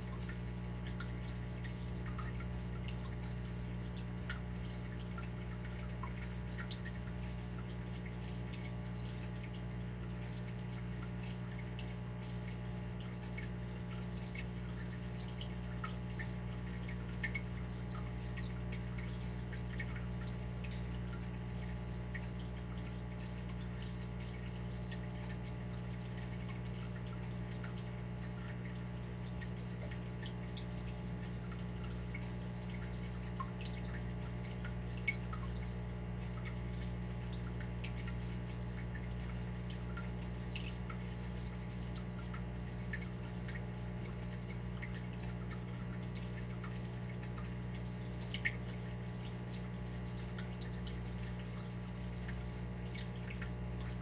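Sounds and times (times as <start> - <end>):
water dripping: 0.0 - 54.0.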